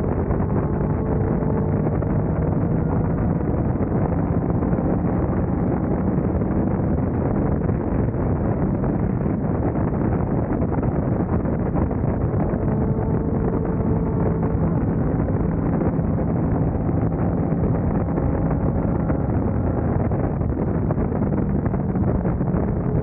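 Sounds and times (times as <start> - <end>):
motorcycle engine cruising: 0.0 - 23.0
wind rush on microphone: 0.0 - 23.0.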